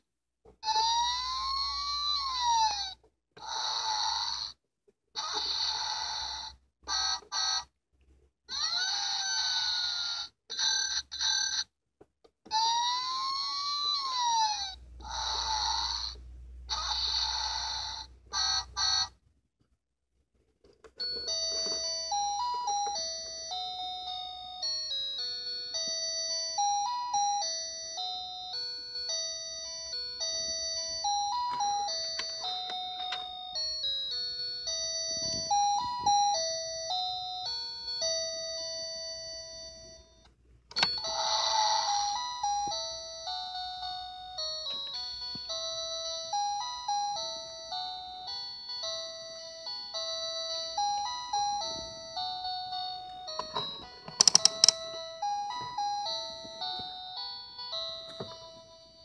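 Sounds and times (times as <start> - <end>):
toy siren tone: 0.6 - 4.6, 5.2 - 7.7, 8.5 - 11.7, 12.5 - 19.2, 21.0 - 59.0.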